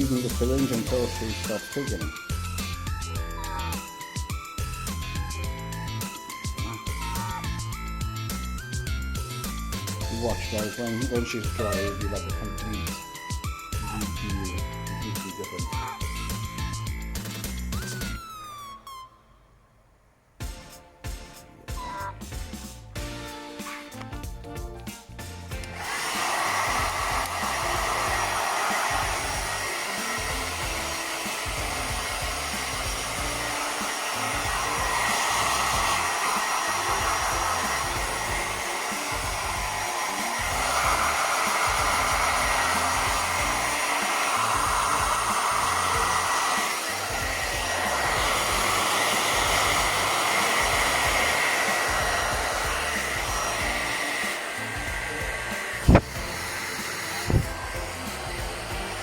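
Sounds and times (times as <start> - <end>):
hair dryer blowing: 0.0 - 18.2, 25.2 - 59.0.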